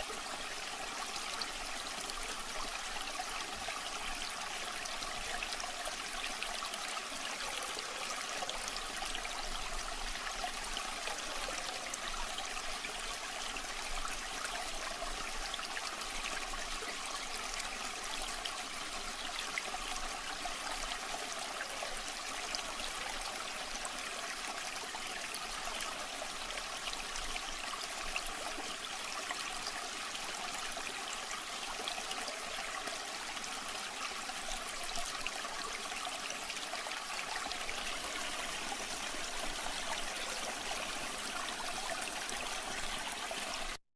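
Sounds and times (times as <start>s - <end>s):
river water flowing over stones: 0.0s - 43.8s.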